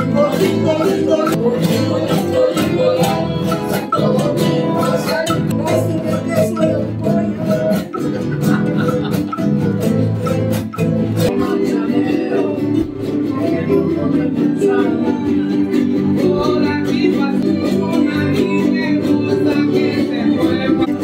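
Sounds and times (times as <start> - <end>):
person singing: 0.0 - 21.0
strummed guitar music: 0.0 - 21.0.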